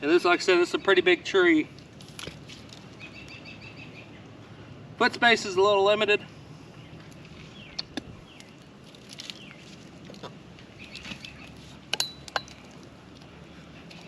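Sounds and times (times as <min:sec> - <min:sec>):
birds chirping: 0:00.0 - 0:01.8, 0:02.8 - 0:09.9, 0:10.5 - 0:14.0.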